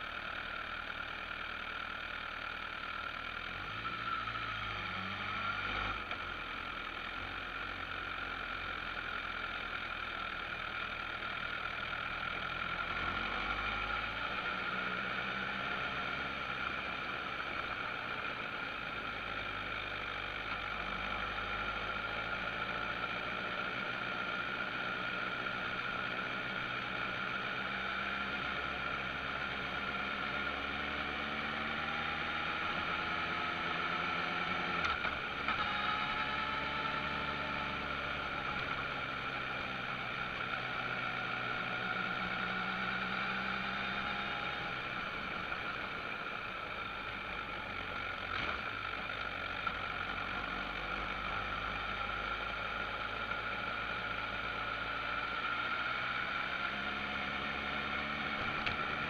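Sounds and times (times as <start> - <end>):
motorcycle engine running: 0.0 - 59.0
road and wind noise: 3.2 - 59.0.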